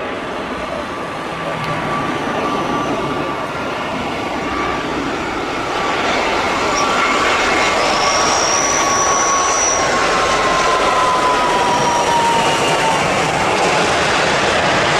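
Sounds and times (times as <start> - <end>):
jet engine rush with whine: 0.0 - 14.9.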